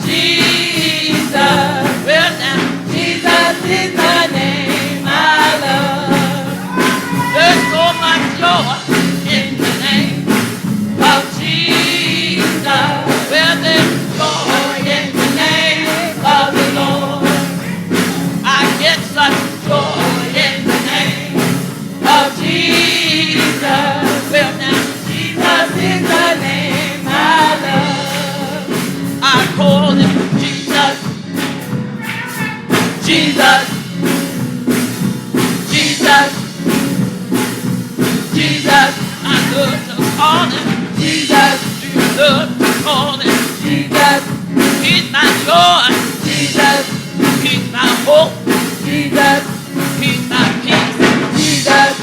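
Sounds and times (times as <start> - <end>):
choir singing gospel: 0.0 - 52.0
drums and percussion beat: 0.0 - 52.0.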